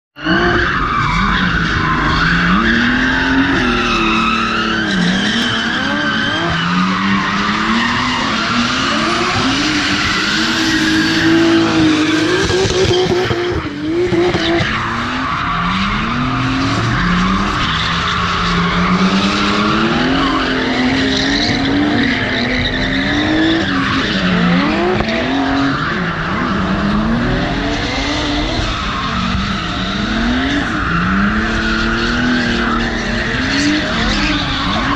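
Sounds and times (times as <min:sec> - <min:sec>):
car engines revving: 0:00.2 - 0:34.9.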